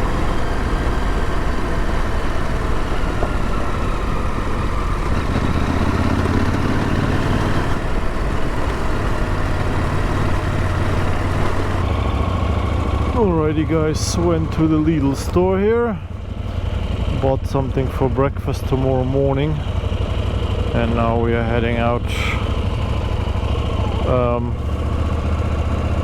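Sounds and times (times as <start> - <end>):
motorcycle engine running: 0.0 - 26.0
road noise: 0.0 - 26.0.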